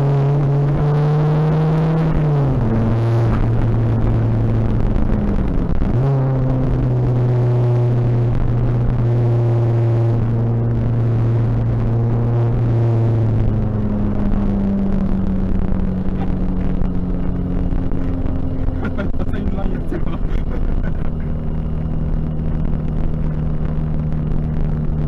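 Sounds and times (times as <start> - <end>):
diesel engine from inside cabin: 0.0 - 25.0.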